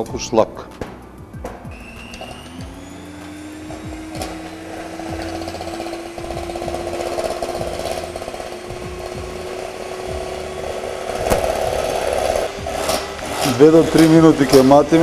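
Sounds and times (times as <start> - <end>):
hand mixer motor hum: 1.7 - 15.0.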